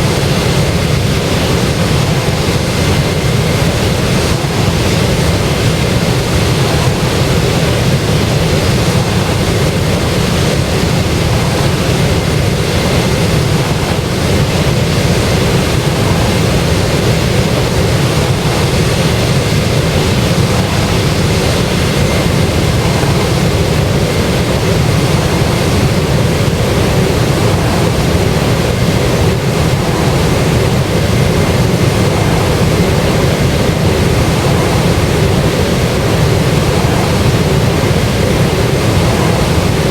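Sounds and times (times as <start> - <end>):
faint steady whine: 0.0 - 39.9
jet engines roaring: 0.0 - 39.9.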